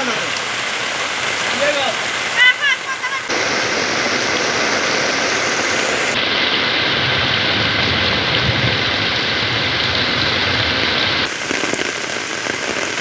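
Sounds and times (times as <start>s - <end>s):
heavy rain pouring on water: 0.0s - 13.0s.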